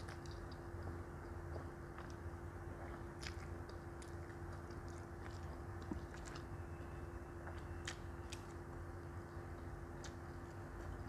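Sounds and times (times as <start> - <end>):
chewing noodles with mouth clicks: 0.0 - 11.0.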